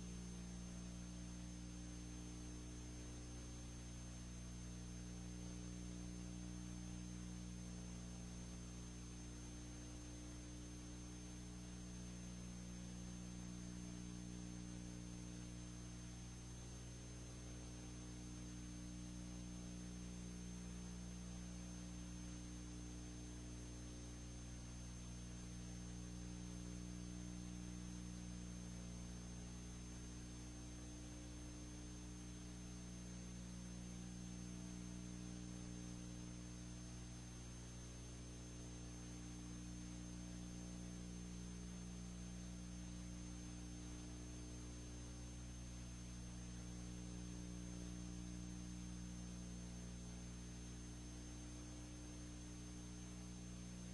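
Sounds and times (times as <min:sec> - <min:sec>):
faint electrical hum: 0:00.0 - 0:53.9.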